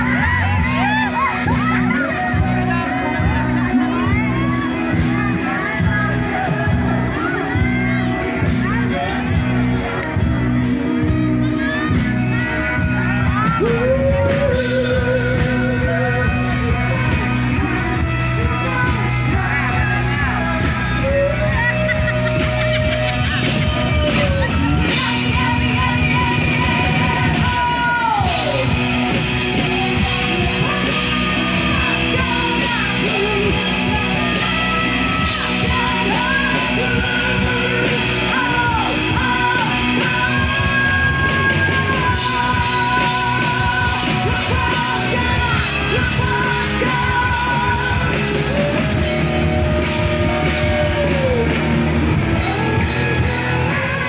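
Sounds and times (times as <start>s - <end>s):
rock band playing loud: 0.0s - 54.0s
woman singing: 0.1s - 51.4s.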